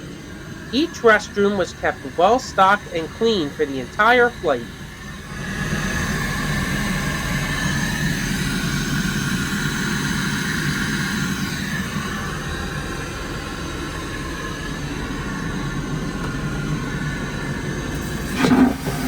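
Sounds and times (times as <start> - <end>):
airplane cabin roar in flight: 0.0 - 19.0.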